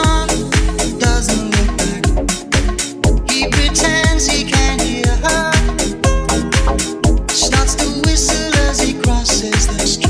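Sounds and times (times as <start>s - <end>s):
kick drum: 0.0s - 10.0s.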